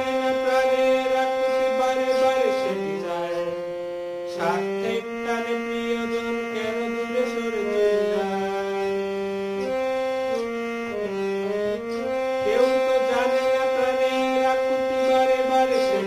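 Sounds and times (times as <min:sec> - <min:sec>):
harmonium playing slow melody: 0:00.0 - 0:16.0.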